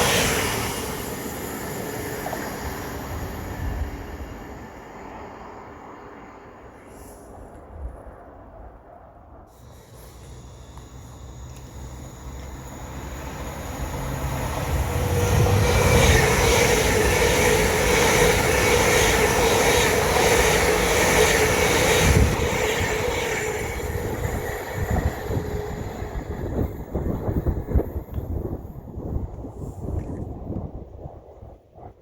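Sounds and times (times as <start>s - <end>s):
train passing with whine: 0.0s - 29.8s.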